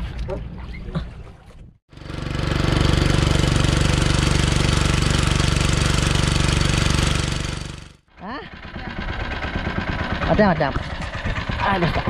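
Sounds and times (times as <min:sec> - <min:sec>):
boat engine running: 0:01.9 - 0:12.0.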